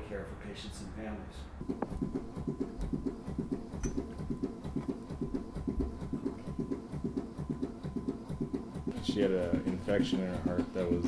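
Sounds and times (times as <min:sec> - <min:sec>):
artificial heart pumping: 0:01.6 - 0:11.0.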